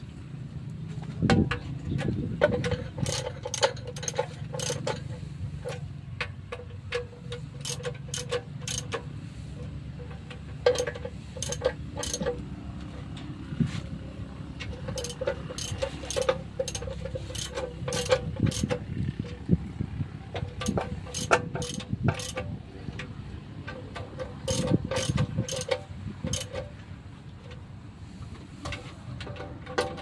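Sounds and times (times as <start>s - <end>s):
machinery clicks and knocks: 0.7s - 30.0s
old stationary engine running: 1.0s - 27.0s.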